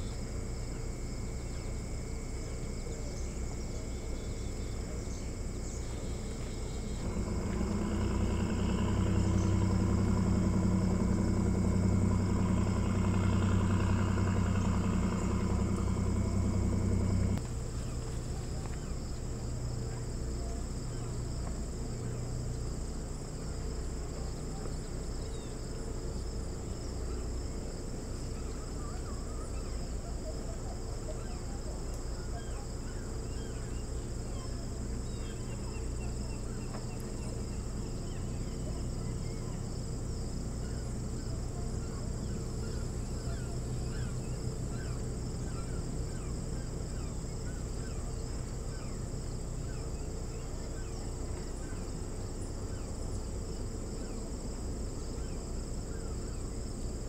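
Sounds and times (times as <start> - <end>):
engine humming: 0.0 - 57.0
insects droning: 0.0 - 57.0.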